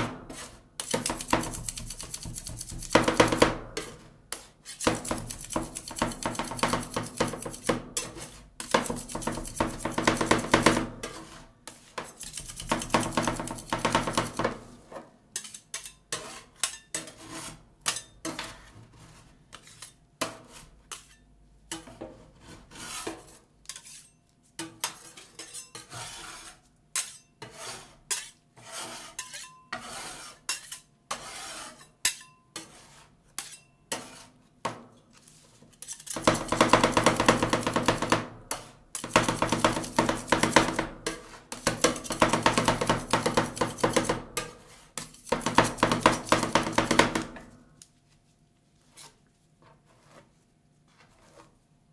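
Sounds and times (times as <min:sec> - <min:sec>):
metal spatulas tapping and scraping: 0:00.0 - 0:47.9.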